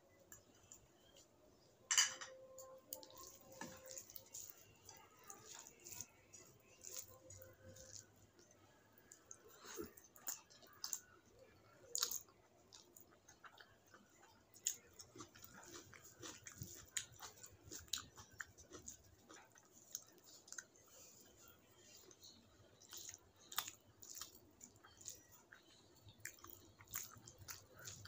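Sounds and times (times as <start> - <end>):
person chewing with mouth smacks: 2.9 - 11.1, 11.9 - 28.0.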